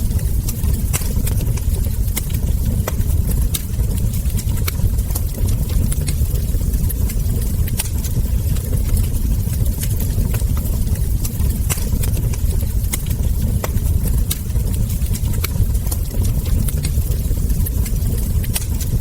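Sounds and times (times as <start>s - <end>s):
fire pops and snaps: 0.0s - 19.0s
low rumble of burning logs: 0.0s - 19.0s
wood fire crackling: 0.0s - 19.0s.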